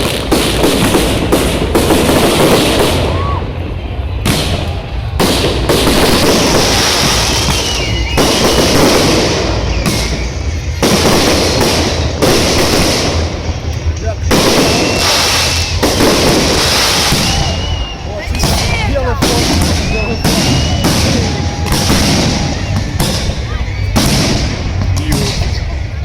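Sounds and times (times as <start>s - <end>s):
faint firework whistles: 0.0s - 25.6s
fireworks bangs and crackling: 0.0s - 26.0s.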